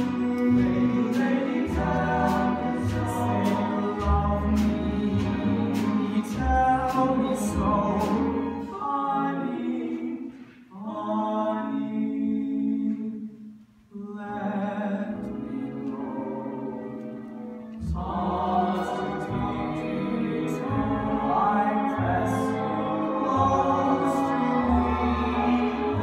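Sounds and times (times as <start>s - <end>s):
vocal ensemble singing chords: 0.0s - 13.3s, 14.0s - 26.0s.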